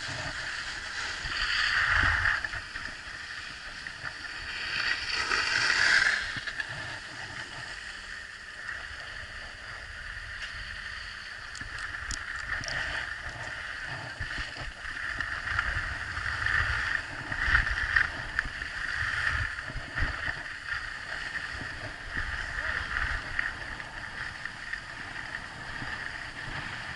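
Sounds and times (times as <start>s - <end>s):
skis gliding over packed snow: 0.0s - 26.9s
wind rumbling on microphone: 0.0s - 26.9s.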